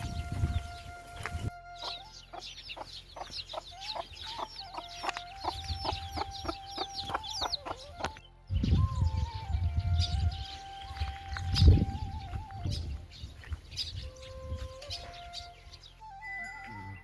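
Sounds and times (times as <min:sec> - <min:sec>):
high chirping calls: 0:00.0 - 0:17.0.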